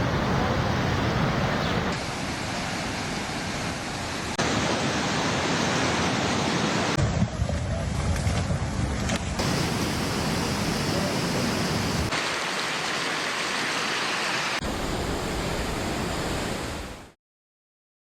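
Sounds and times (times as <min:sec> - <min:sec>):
fast-flowing floodwater: 0:00.0 - 0:07.0, 0:09.4 - 0:17.2.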